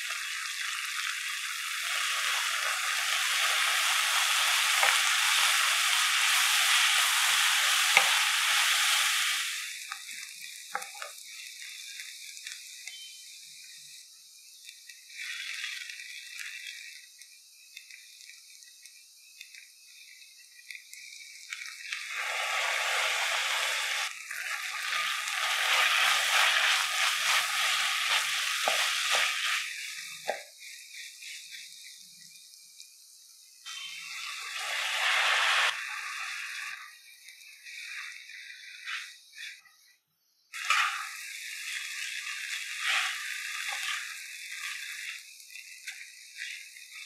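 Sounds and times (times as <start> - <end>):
spatula stirring in pan: 0.0 - 13.0, 14.6 - 32.8, 33.7 - 39.9, 40.5 - 47.0
vegetables sizzling in hot oil: 0.0 - 47.0.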